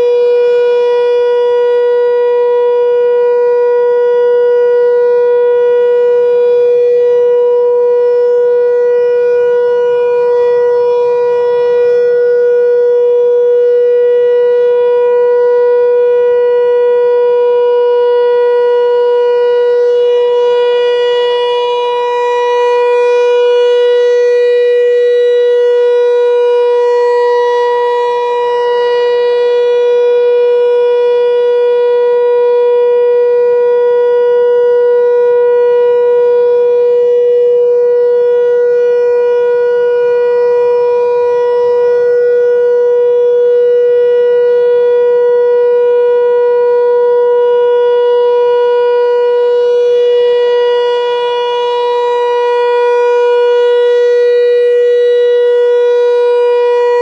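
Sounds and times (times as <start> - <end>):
rotating warning siren: 0.0 - 57.0.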